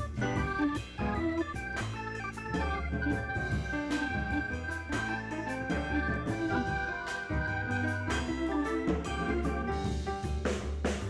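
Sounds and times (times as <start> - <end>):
held synth notes: 0.0 - 9.9
drum beat: 0.0 - 11.0
steady bass line: 0.0 - 11.0.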